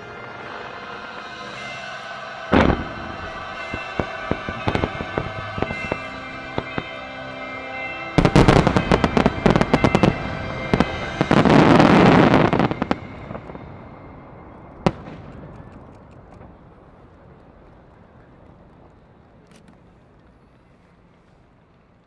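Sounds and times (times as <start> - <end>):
fireworks bangs and crackling: 1.5 - 7.1, 7.7 - 19.8.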